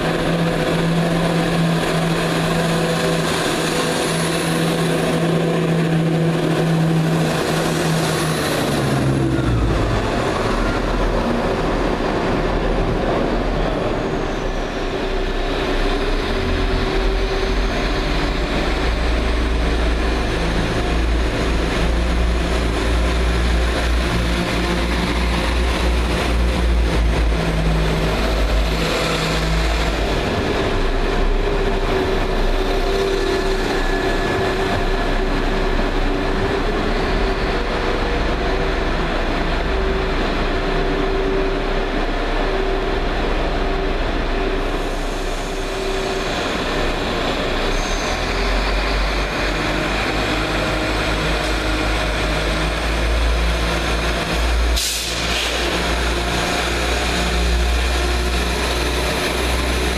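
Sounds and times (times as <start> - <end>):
diesel train engines running: 0.0 - 59.9.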